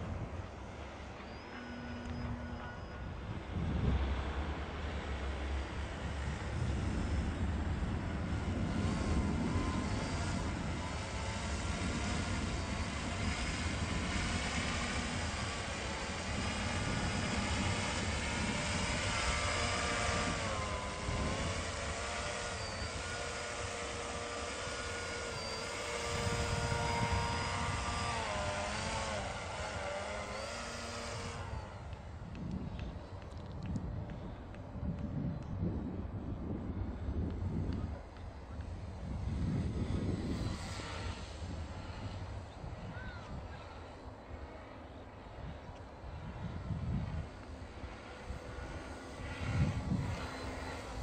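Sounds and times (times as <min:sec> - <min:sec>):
model plane motor whining: 0:00.0 - 0:51.0.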